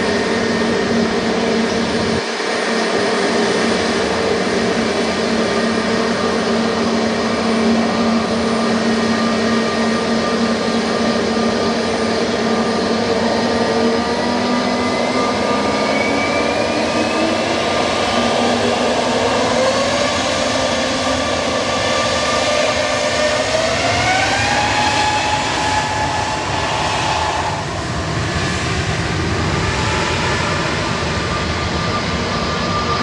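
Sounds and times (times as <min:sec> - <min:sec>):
jet engines running loudly: 0:00.0 - 0:33.0.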